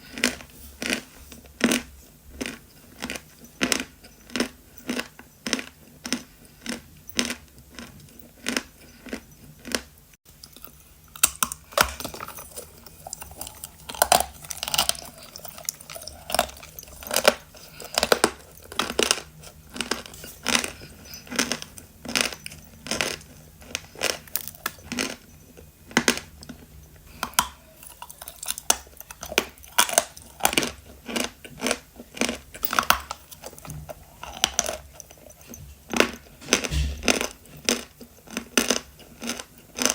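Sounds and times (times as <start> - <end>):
person chewing chalk: 0.0 - 25.3, 25.9 - 39.9.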